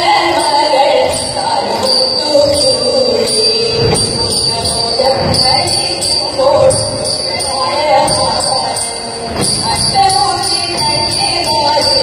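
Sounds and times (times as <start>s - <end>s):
jingling beat: 0.0s - 12.0s
women singing: 0.0s - 12.0s.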